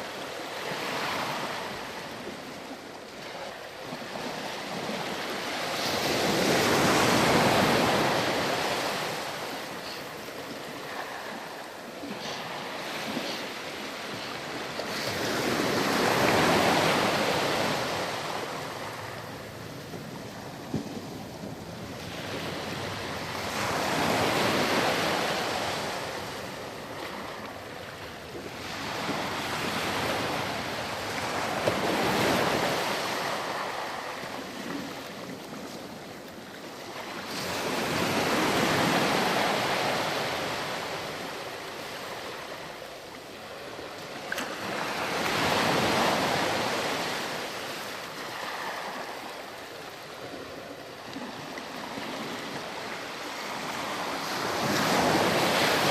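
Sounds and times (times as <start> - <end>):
ocean surf on sandy beach: 0.0 - 55.9.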